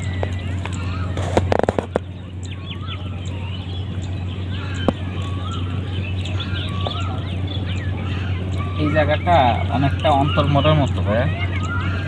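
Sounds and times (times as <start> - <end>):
low hum: 0.0 - 12.0
small birds chirping: 0.0 - 12.0.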